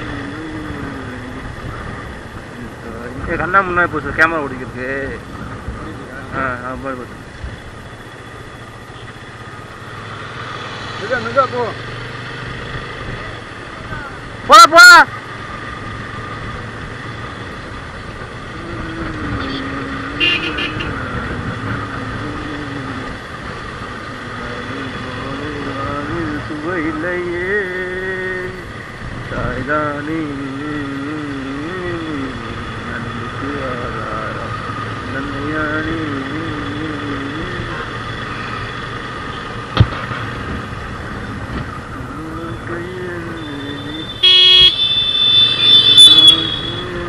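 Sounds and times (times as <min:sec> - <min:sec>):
wind and road noise: 0:00.0 - 0:47.0.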